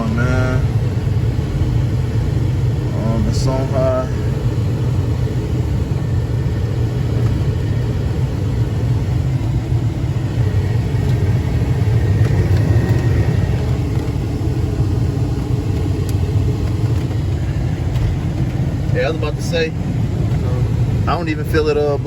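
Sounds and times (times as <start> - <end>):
blower fan: 0.0 - 22.0
engine idling inside cab: 0.0 - 22.0.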